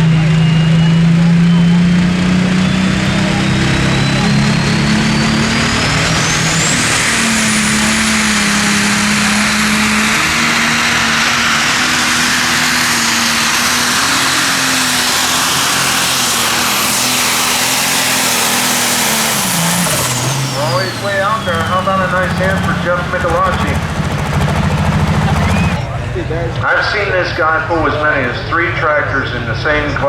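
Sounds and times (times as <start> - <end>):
high turbo whistle: 0.0 - 26.0
tractor engine at full load: 0.0 - 30.0.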